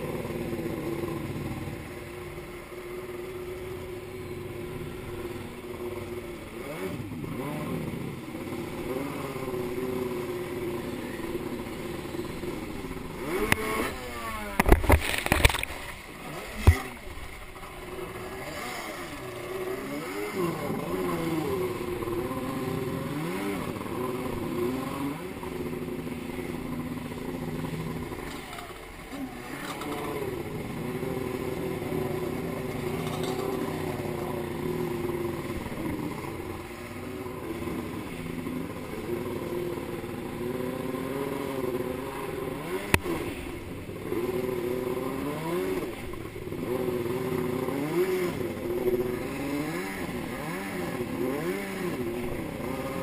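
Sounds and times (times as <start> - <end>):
jet ski engine running: 0.0 - 53.0.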